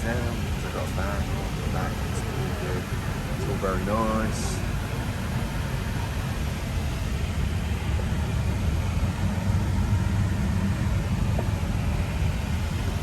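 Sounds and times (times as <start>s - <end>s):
aircraft rumble: 0.0s - 13.0s.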